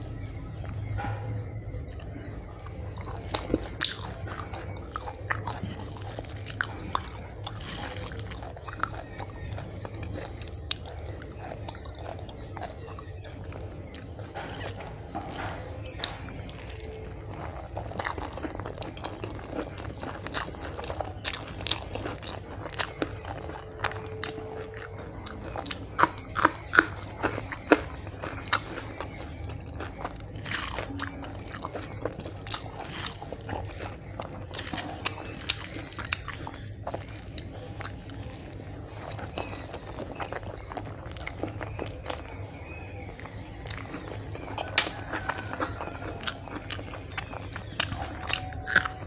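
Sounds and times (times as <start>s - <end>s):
crunchy bites: 0.0s - 49.0s
person chewing: 0.0s - 49.0s.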